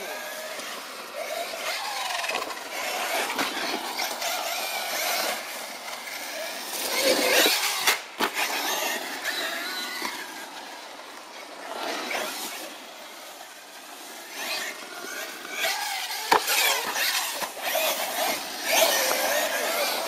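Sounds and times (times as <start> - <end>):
rc truck motor whining: 0.0 - 20.0
tyres on gravel: 0.0 - 20.0.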